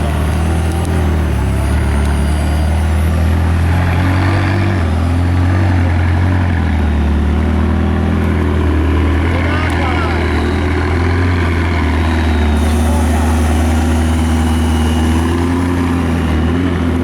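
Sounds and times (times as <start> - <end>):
car engine idling: 2.8 - 17.0.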